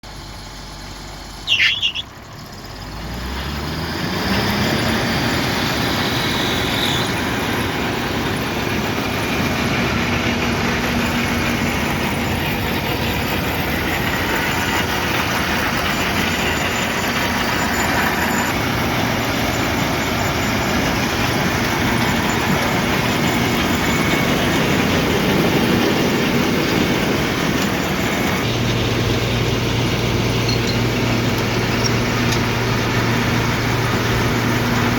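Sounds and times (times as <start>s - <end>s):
high squeal: 1.4s - 2.8s, 4.5s - 9.1s, 10.9s - 34.9s
tub grinder running: 6.0s - 34.9s.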